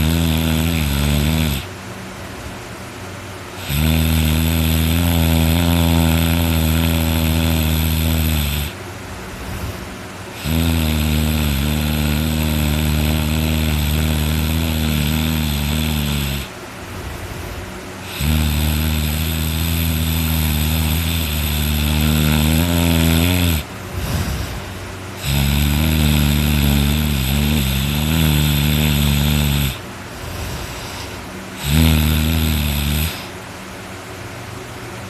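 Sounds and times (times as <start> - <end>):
person snoring loudly: 0.0 - 1.7, 3.6 - 8.8, 9.4 - 33.4
quiet breathing: 0.0 - 1.8, 3.6 - 33.4.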